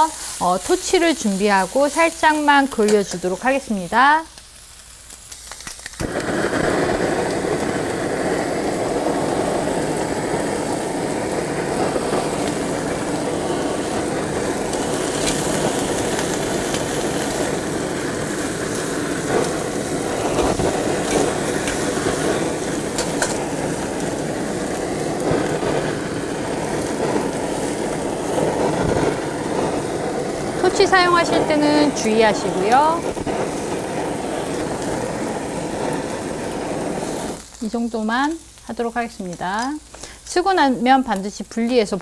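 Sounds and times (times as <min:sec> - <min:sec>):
kitchen torch hissing: 0:00.0 - 0:42.0.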